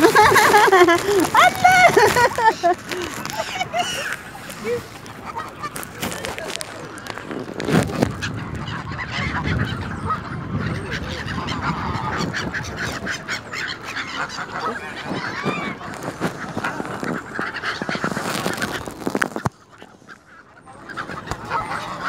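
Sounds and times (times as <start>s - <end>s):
geese honking: 0.0s - 18.8s, 19.6s - 22.0s.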